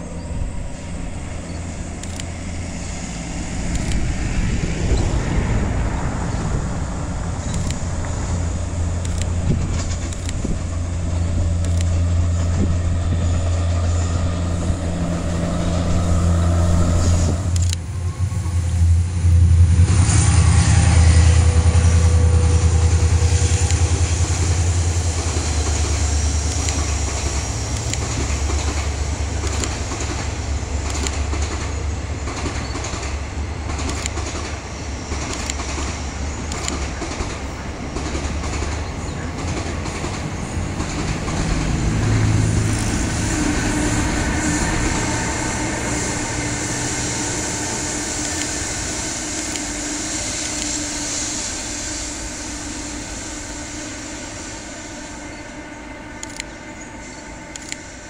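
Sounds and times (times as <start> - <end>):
passenger train rumbling past: 0.0 - 58.0.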